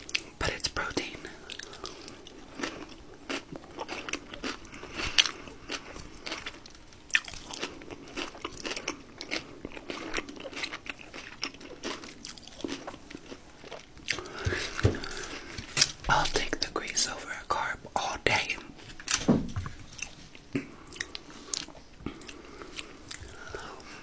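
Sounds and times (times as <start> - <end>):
chewing and mouth sounds: 0.0 - 17.6, 18.9 - 24.0.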